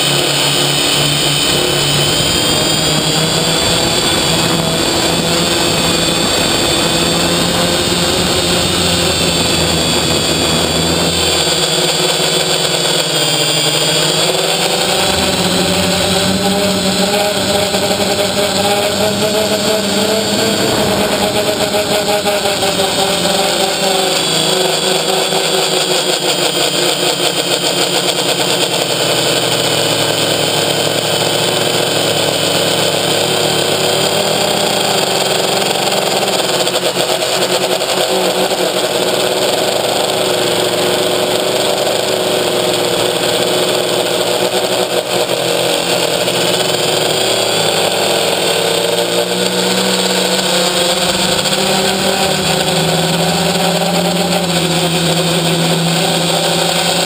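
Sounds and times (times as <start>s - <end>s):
quadcopter propellers humming: 0.0s - 57.0s.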